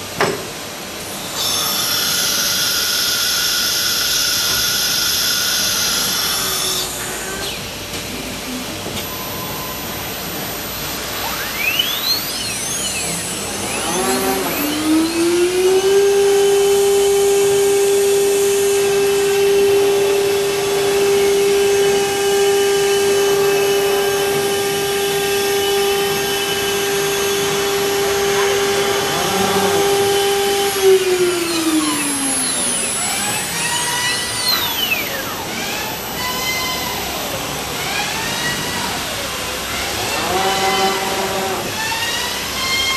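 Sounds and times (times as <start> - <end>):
router spindle whining: 0.9 - 42.9.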